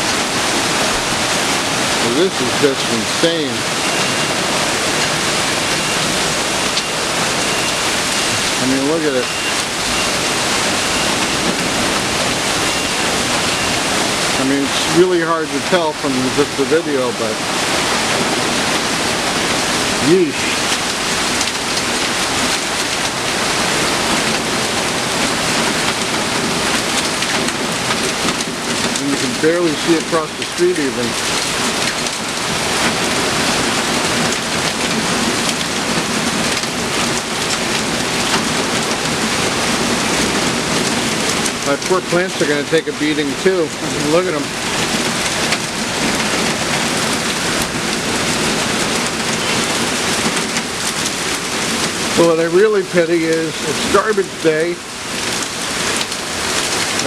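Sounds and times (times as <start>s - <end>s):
torrential rain pouring: 0.0s - 57.0s.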